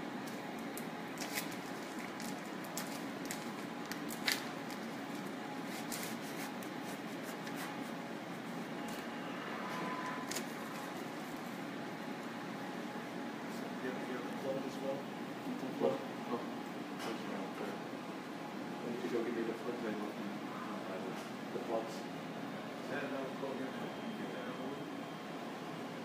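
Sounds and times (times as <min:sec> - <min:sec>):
ventilation hum and hiss: 0:00.0 - 0:26.0.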